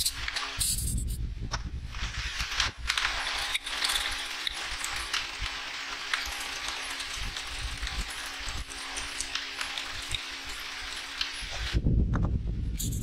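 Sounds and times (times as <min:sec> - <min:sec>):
metal parts clicking: 0:00.0 - 0:01.2, 0:02.3 - 0:11.7, 0:12.8 - 0:13.0.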